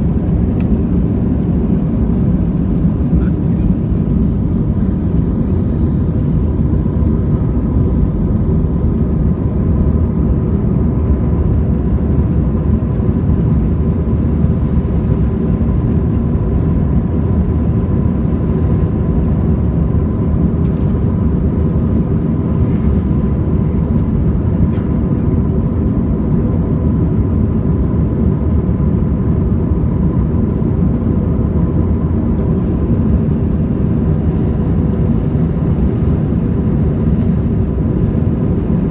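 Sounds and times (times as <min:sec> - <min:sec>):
faint engine whine: 0:00.0 - 0:38.9
jet engine cabin rumble: 0:00.0 - 0:38.9.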